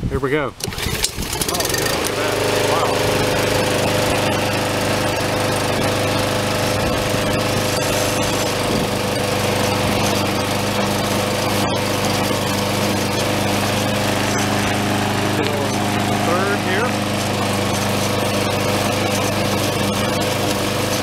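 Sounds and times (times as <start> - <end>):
lawn mower engine running: 0.6 - 21.0.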